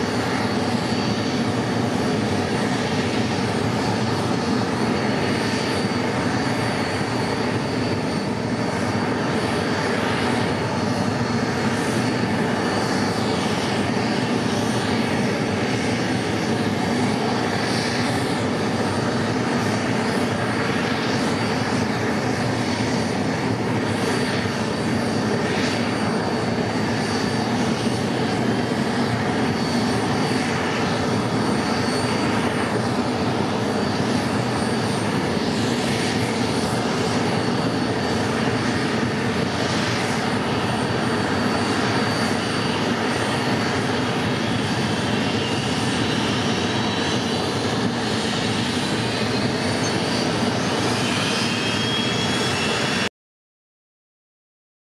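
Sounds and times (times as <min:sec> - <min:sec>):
jet engines idling with high whine: 0:00.0 - 0:53.1.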